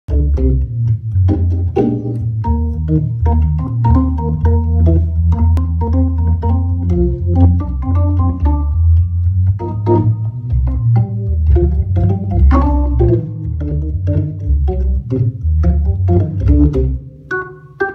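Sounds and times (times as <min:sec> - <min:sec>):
organ chords over heavy bass: 0:00.1 - 0:17.9.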